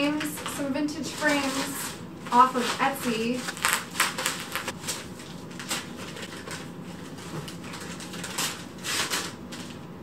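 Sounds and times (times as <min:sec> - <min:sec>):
packing paper crinkling: 0:00.0 - 0:10.0.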